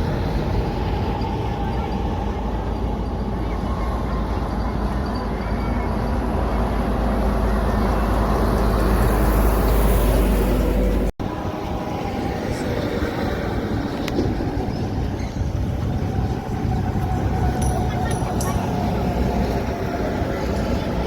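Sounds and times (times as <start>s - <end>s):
truck passing: 0.0s - 21.0s.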